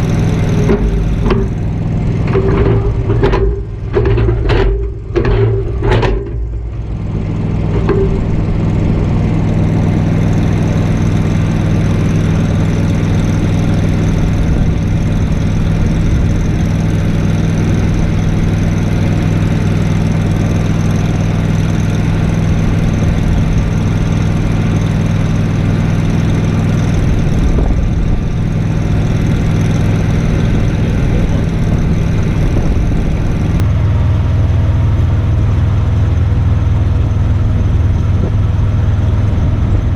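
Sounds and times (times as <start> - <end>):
welding machine engine running: 0.0 - 39.9.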